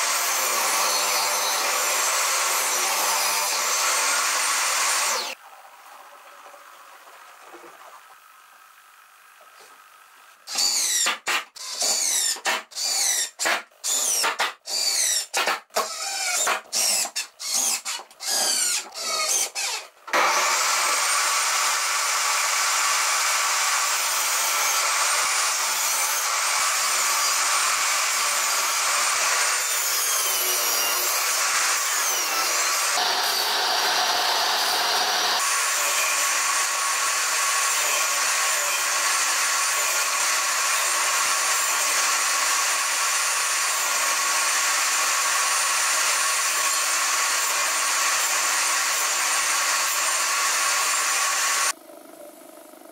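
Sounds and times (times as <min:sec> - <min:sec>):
table saw cutting wood: 0:00.0 - 0:05.4, 0:10.5 - 0:51.8.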